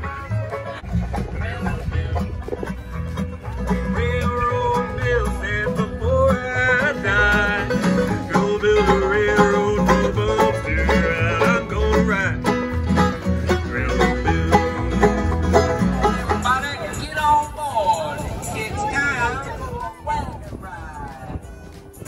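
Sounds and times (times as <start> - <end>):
banjo: 0.0 - 20.3
bass beat: 0.0 - 22.0
guitar: 0.0 - 22.0.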